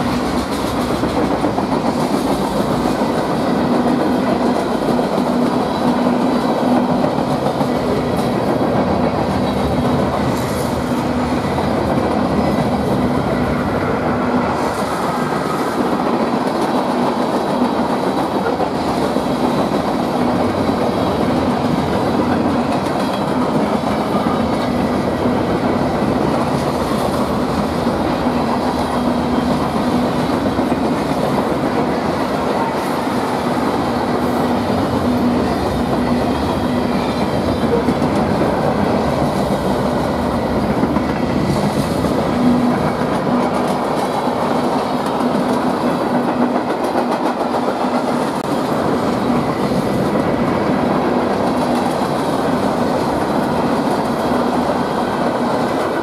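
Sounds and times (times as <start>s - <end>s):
steel wheels clattering on rails: 0.0s - 56.0s.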